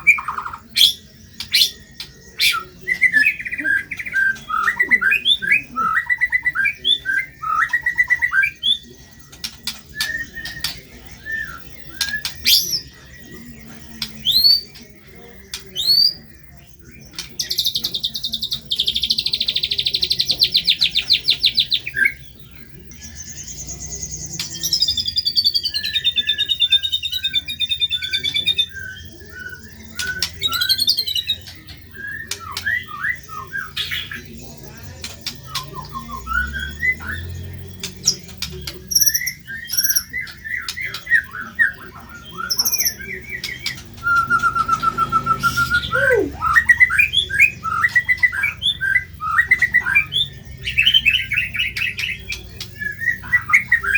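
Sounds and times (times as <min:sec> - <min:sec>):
songbird singing varied song: 0:00.0 - 0:53.9.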